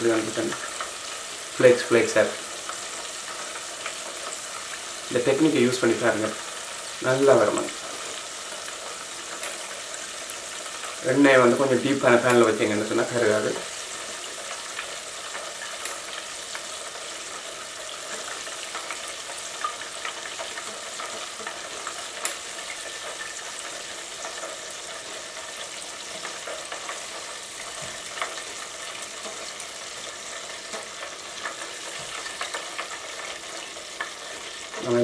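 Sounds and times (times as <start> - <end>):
chicken deep-frying in oil: 0.0 - 35.0.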